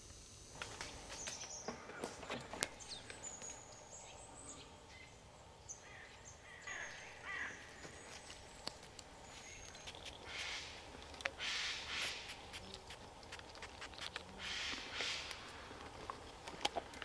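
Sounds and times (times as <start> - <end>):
faint woodland birdsong: 0.6 - 17.0.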